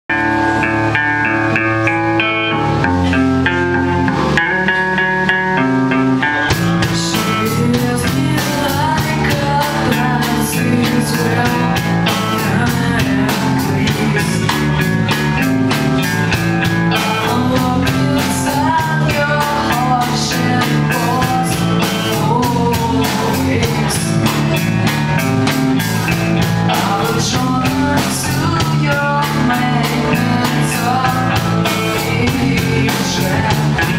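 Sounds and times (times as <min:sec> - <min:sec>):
drums: 0:00.0 - 0:33.9
electric guitar: 0:00.1 - 0:33.9
person singing: 0:00.1 - 0:33.9.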